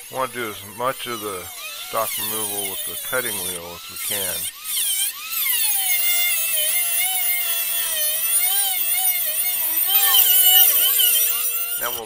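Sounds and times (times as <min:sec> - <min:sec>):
angle grinder whine: 0:00.0 - 0:12.0
grinding hiss: 0:00.0 - 0:12.0.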